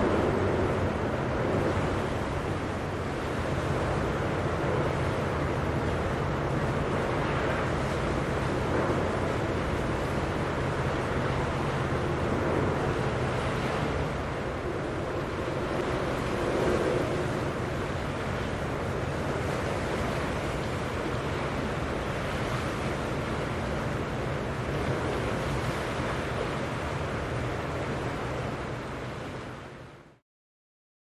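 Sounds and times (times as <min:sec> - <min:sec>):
wind buffeting microphone: 0:00.0 - 0:29.6
waves washing: 0:00.0 - 0:30.1.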